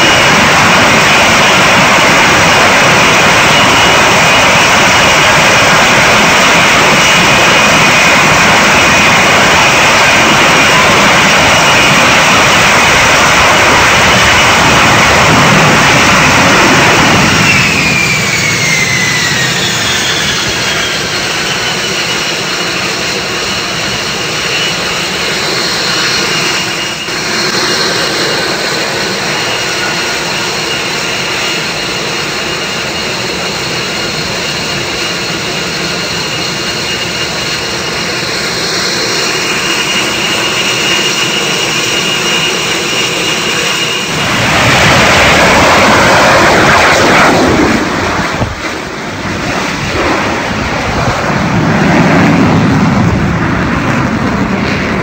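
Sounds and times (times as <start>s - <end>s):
jet engine whine: 0.0s - 55.0s
loud jet roar: 0.0s - 55.0s.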